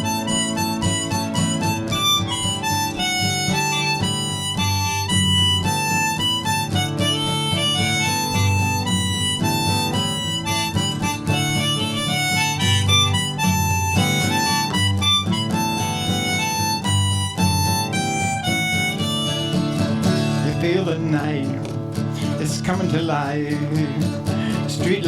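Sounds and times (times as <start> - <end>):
harmonica solo: 0.0 - 20.5
strummed acoustic guitar: 0.0 - 25.0.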